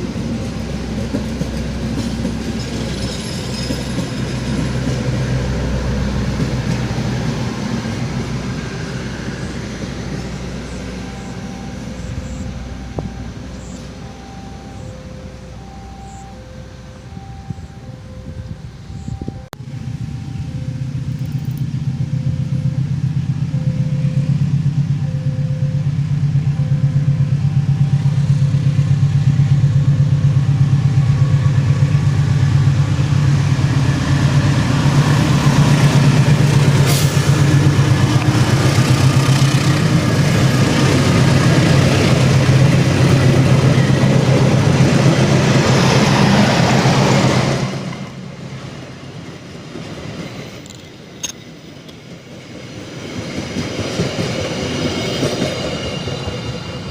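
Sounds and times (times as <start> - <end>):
locomotive engine throbbing: 0.0 - 50.8.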